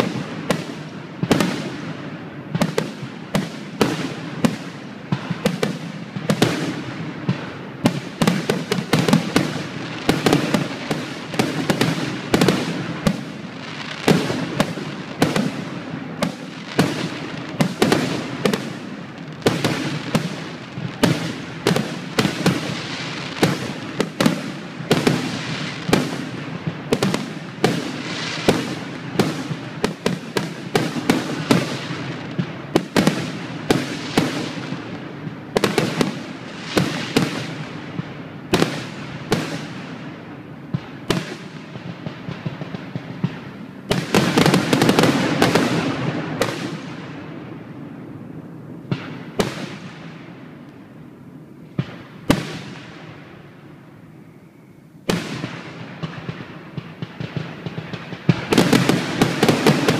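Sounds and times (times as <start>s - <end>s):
fireworks bursting: 0.0s - 47.8s, 48.6s - 51.0s, 51.6s - 59.9s.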